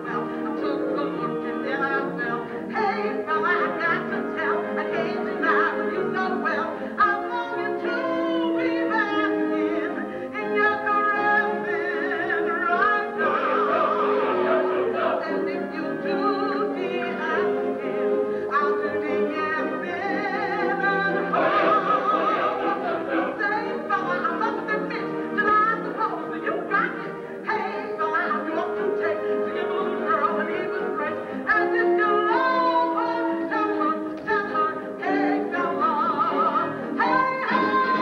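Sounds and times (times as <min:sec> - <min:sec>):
ensemble chorus singing: 0:00.0 - 0:38.0
musical accompaniment: 0:00.0 - 0:38.0
woman singing with vibrato: 0:00.0 - 0:38.0.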